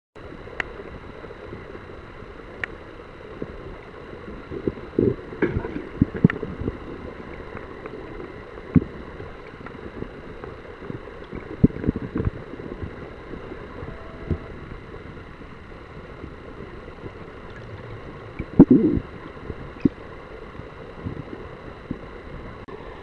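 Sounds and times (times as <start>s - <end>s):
underwater rush of moving water: 0.2s - 23.0s.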